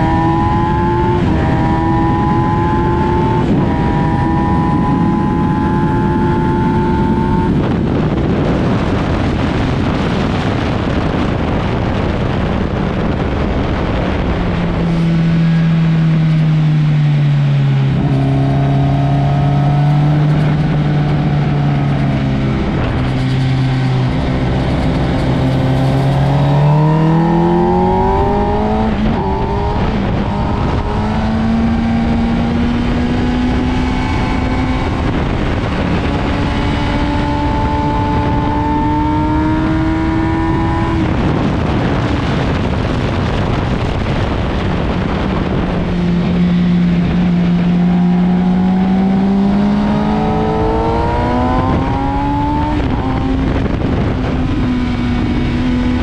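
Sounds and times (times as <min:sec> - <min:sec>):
motorcycle engine at full throttle: 0:00.0 - 0:56.0
wind rushing: 0:00.0 - 0:56.0.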